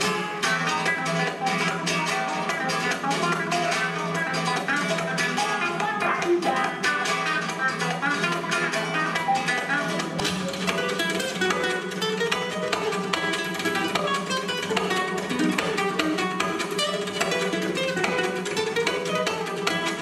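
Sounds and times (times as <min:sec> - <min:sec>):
acoustic guitars plucking: 0:00.0 - 0:20.0.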